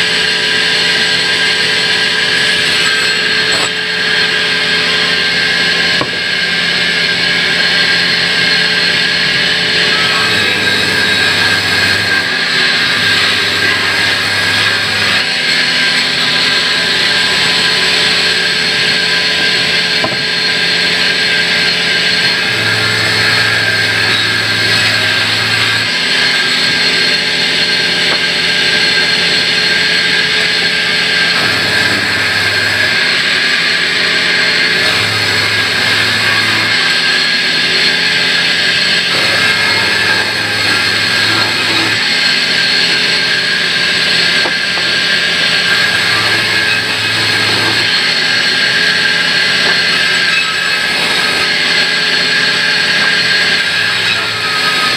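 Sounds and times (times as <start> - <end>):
band saw cutting log: 0.0 - 54.9.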